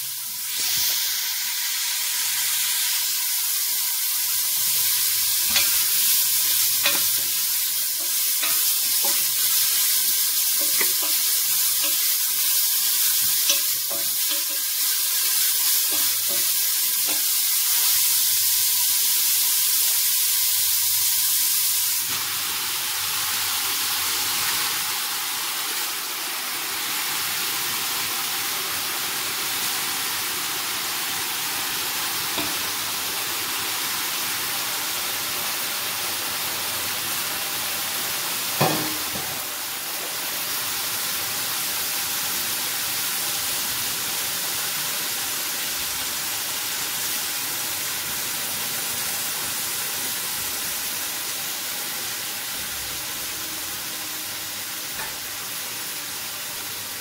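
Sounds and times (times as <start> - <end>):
spinach sizzling in a pot: 0.0 - 57.0.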